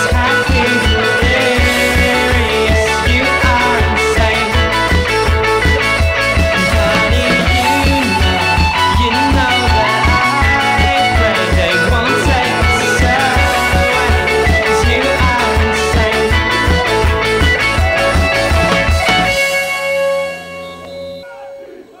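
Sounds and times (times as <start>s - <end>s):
steady drum beat: 0.0s - 21.4s
rock guitar: 0.0s - 22.0s.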